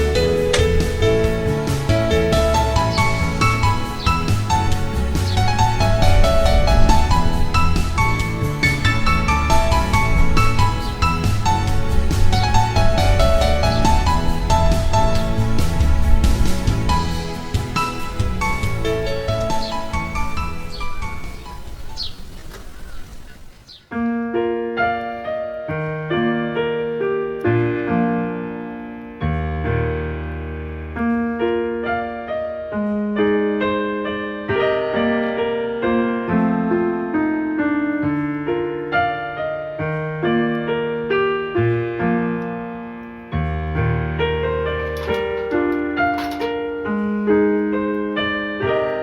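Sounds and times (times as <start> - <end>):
gentle piano music: 0.0 - 49.0.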